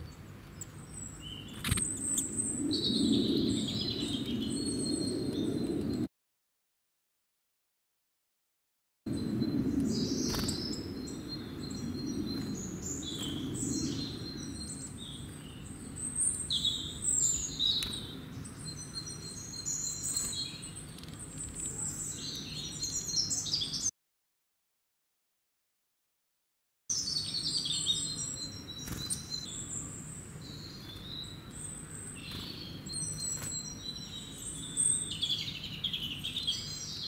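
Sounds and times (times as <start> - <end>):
birds chirping: 0.0 - 6.1, 9.1 - 23.9, 26.9 - 37.0.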